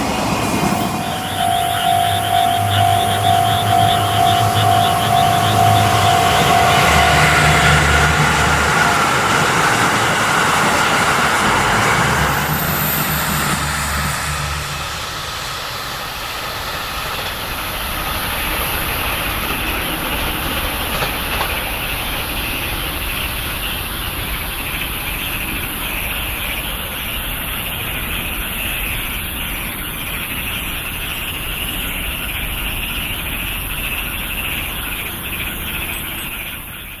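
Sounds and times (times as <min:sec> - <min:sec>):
chorus of frogs calling: 0:00.0 - 0:13.9, 0:17.2 - 0:37.0
train rumbling past: 0:00.0 - 0:37.0.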